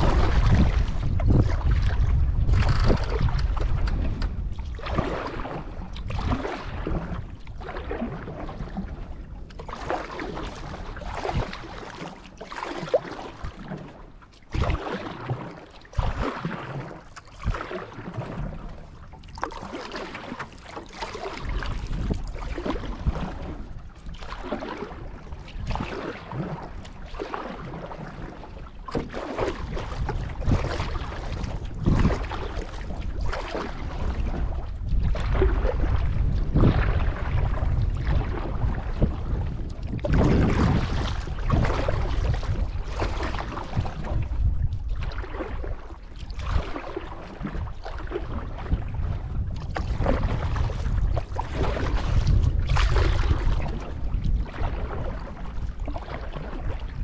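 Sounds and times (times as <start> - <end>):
wind buffeting microphone: 0.0 - 14.9, 15.9 - 57.0
paddle splashing through water: 0.0 - 57.0.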